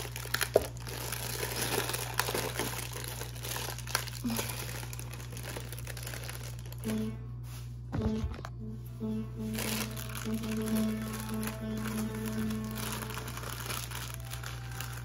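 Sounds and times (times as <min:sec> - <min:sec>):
plastic bag crinkling: 0:00.0 - 0:08.5, 0:09.5 - 0:15.0.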